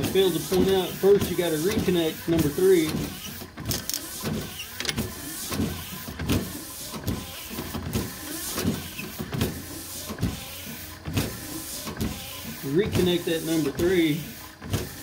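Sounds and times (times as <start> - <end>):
windshield wiper motor running: 0.0 - 15.0.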